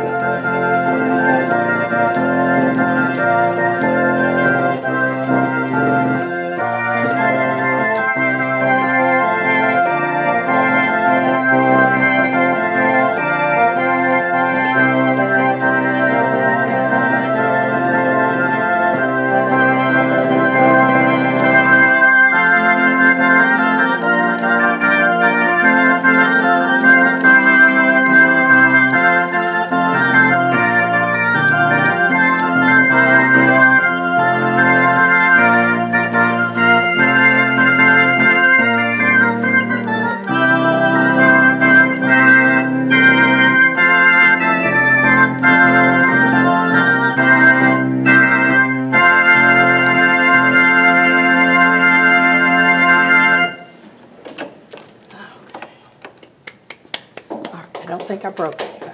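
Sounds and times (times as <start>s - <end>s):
theatre organ playing carol: 0.0s - 54.6s.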